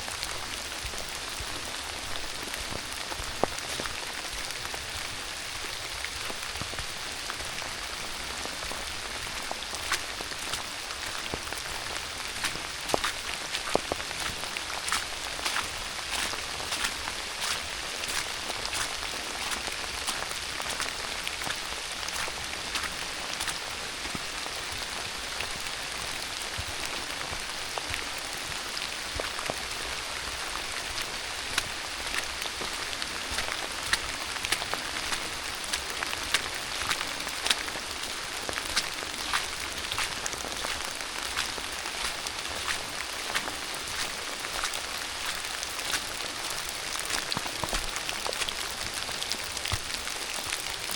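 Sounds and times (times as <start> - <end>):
steady rain hiss: 0.0 - 50.9
raindrops ticking: 0.1 - 50.9.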